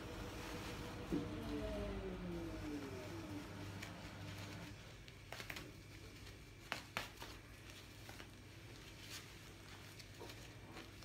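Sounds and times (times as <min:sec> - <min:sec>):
cloth rustling: 0:00.0 - 0:11.0.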